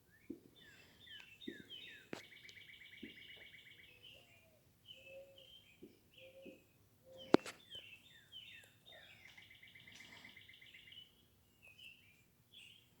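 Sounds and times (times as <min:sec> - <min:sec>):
songbirds chirping: 0:00.0 - 0:13.0
bird trill: 0:00.2 - 0:12.8.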